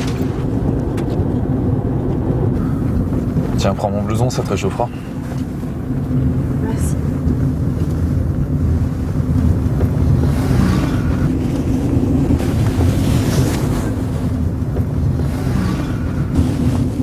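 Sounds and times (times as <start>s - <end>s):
car engine and road noise: 0.0s - 17.0s
rushing wind noise: 0.0s - 17.0s.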